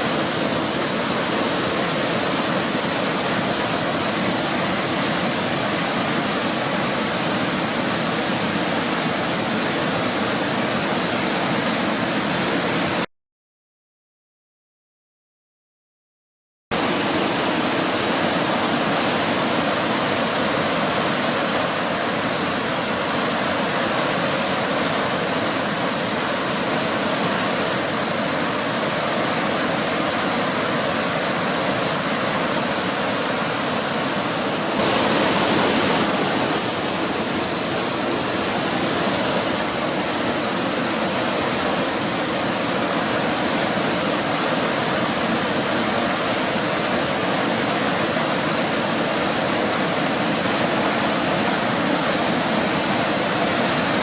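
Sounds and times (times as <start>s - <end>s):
waterfall rushing: 0.0s - 13.0s, 16.8s - 54.0s.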